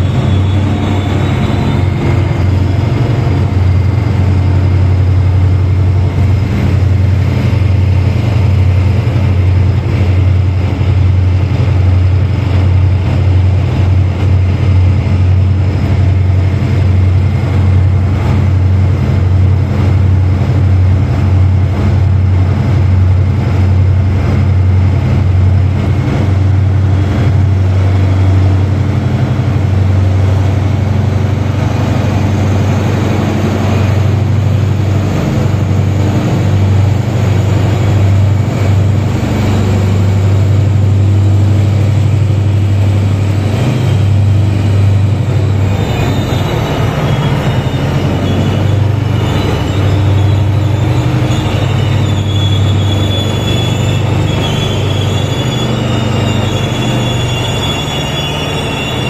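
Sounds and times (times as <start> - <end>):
locomotive low hum: 0.0 - 59.0.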